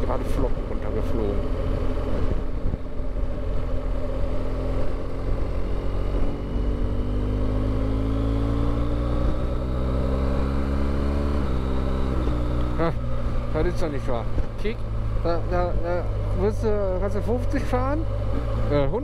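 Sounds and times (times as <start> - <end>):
motorcycle engine accelerating: 0.0 - 19.0
rushing road noise: 0.0 - 19.0.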